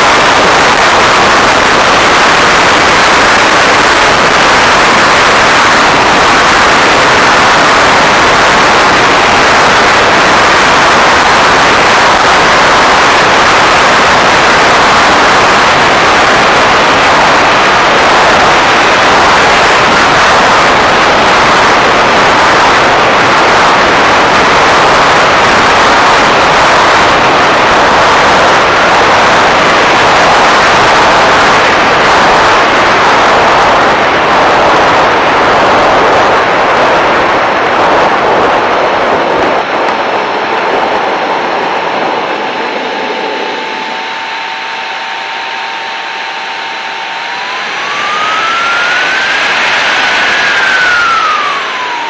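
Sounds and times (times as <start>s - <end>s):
model jet engine: 0.0s - 52.0s
rush of airflow: 0.0s - 52.0s.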